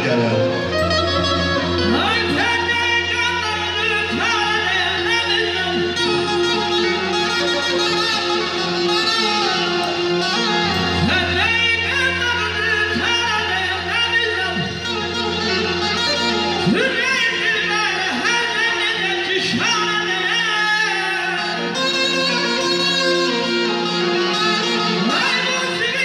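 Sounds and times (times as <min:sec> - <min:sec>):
accordion: 0:00.0 - 0:26.0
bowed string instrument: 0:00.0 - 0:26.0
person singing through microphone: 0:00.0 - 0:26.0.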